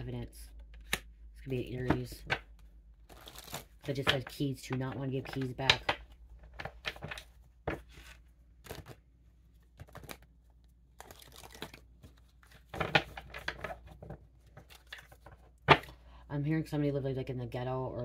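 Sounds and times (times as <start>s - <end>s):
cards shuffling: 0.6s - 15.9s.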